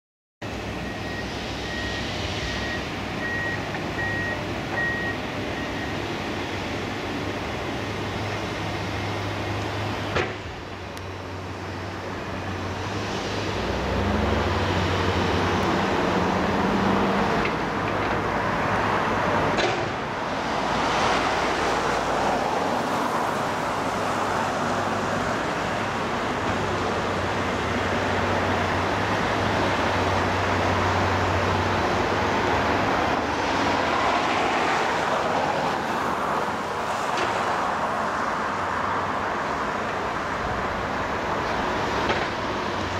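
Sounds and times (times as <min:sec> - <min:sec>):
excavator diesel engine running: 0:00.4 - 0:37.9.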